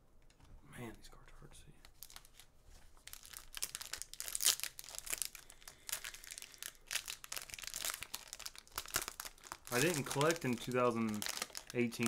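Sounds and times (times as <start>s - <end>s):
plastic wrapper crinkling: 1.8s - 12.0s.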